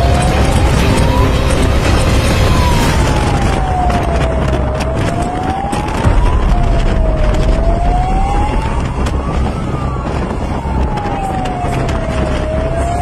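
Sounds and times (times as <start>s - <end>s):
fire truck siren wailing: 0.0s - 13.0s
road noise: 0.0s - 13.0s
truck engine rumble: 0.0s - 13.0s.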